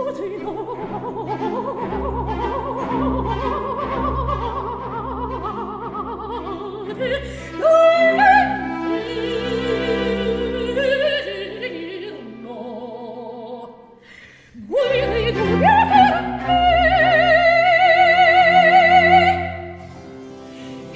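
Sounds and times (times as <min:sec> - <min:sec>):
soprano singing opera aria: 0:00.0 - 0:19.8
string orchestra: 0:00.0 - 0:20.9.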